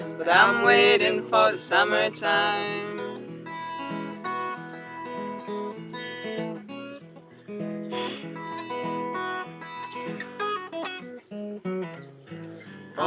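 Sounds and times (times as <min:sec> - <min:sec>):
acoustic guitar picking and strumming: 0:00.0 - 0:13.0.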